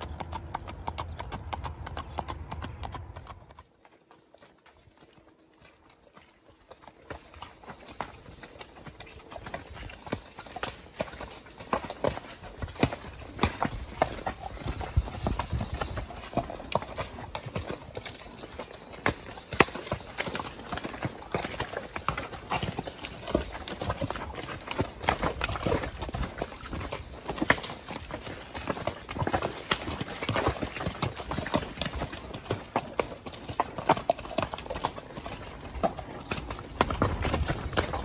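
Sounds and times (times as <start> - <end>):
horse hooves clopping on rocks: 0.0 - 38.0.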